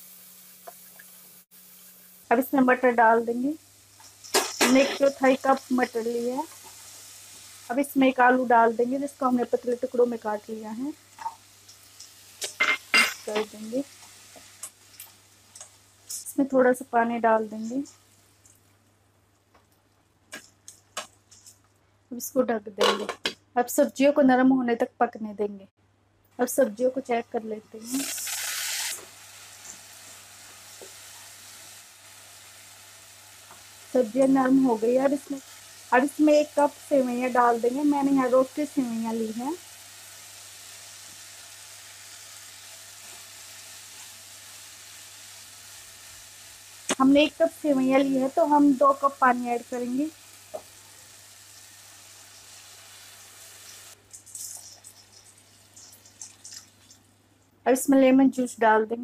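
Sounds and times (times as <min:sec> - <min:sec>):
water crackling in hot pan: 0:00.0 - 0:21.7, 0:27.8 - 0:57.5
vegetables sizzling quietly: 0:00.0 - 0:22.6, 0:26.3 - 0:58.8.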